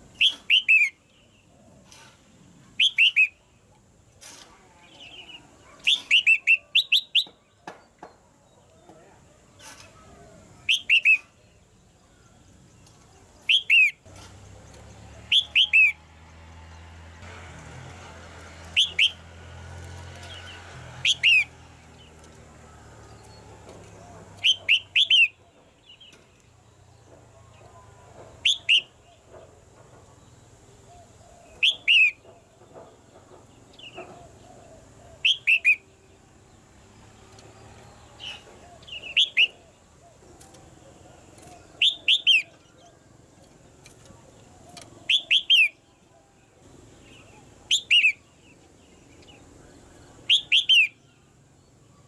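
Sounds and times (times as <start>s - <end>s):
bird chirping: 0.0s - 17.0s, 18.6s - 19.3s, 20.1s - 52.0s.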